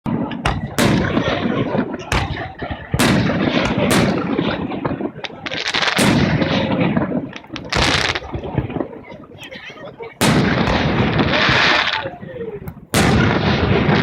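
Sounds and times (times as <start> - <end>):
firework shells bursting with bangs: 0.1 - 8.9, 10.2 - 14.0
rumble and crackle of fireworks: 0.1 - 14.0.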